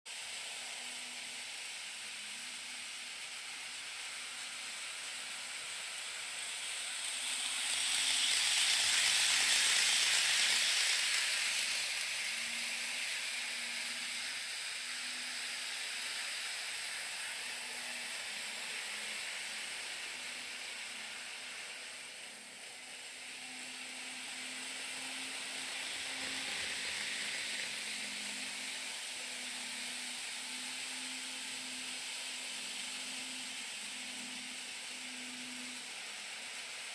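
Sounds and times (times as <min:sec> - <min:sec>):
model train rolling on track: 0:00.1 - 0:36.9.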